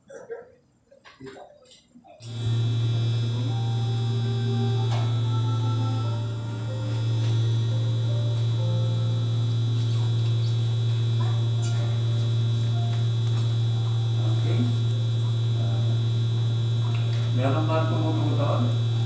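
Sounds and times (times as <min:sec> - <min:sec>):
electrical mains hum: 0:00.0 - 0:19.0
high steady whine: 0:02.1 - 0:19.0.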